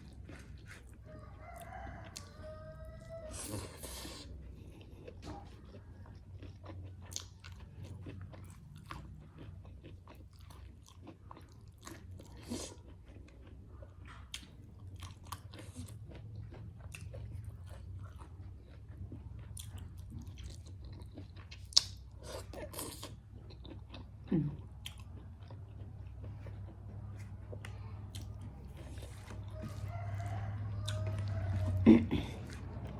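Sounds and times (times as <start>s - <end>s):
chewing and crunching food: 0.0s - 32.9s.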